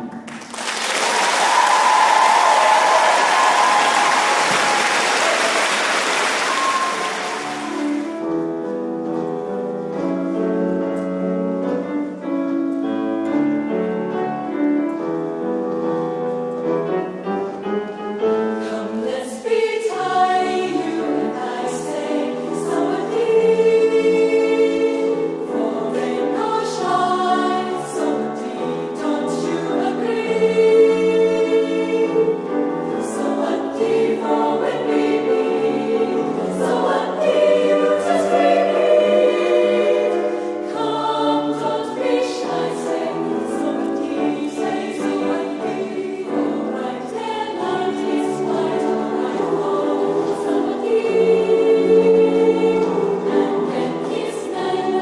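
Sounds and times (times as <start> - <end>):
choir singing in harmony: 0.0 - 10.8, 11.5 - 55.0.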